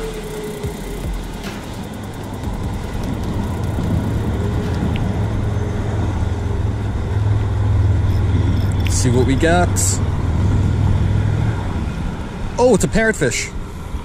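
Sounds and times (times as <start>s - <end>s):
traffic rumble on bridge: 0.0s - 14.0s.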